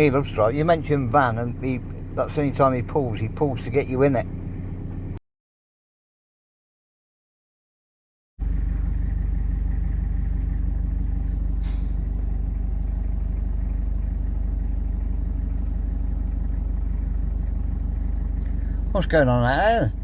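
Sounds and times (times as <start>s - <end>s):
van engine running: 0.0s - 5.2s, 8.4s - 20.0s.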